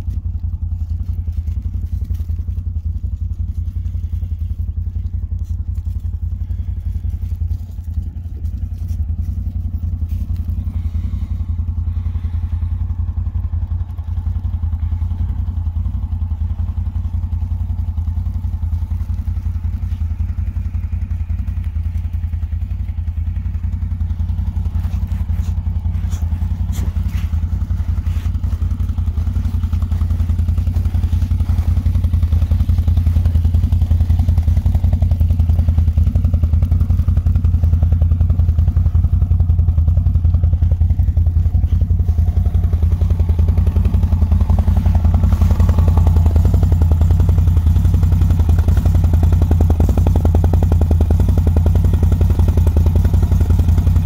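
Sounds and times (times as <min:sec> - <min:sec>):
atv engine idling: 0:00.0 - 0:54.0.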